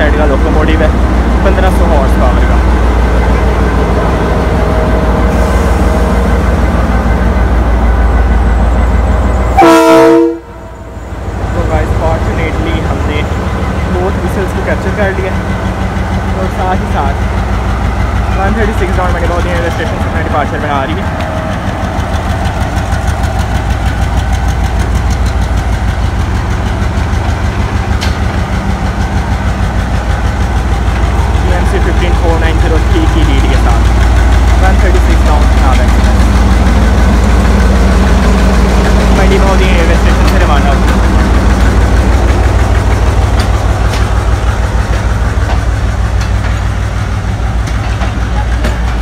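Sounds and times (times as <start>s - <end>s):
locomotive engine idling: 0.0s - 49.0s
train coaches rumbling: 0.0s - 49.0s.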